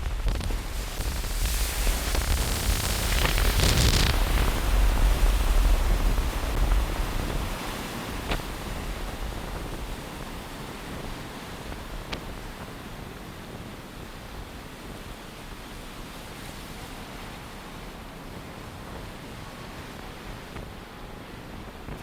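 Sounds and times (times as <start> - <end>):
gusty wind buffeting microphone: 0.0 - 22.0.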